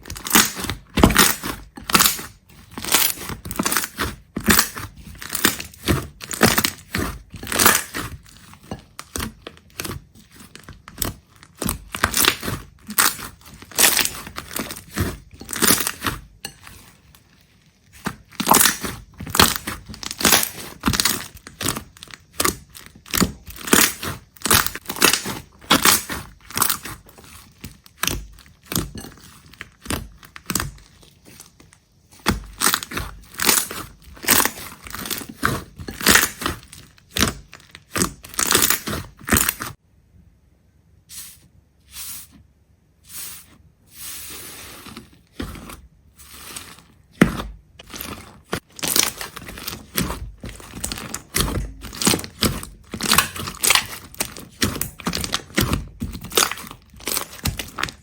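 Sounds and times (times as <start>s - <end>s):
brittle crunching and crackling: 0.0s - 39.8s, 44.2s - 58.0s.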